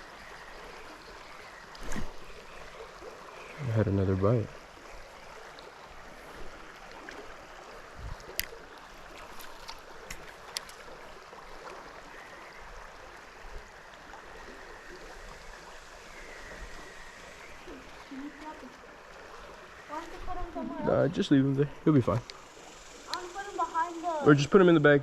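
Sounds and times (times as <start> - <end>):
creek water running: 0.0 - 25.0.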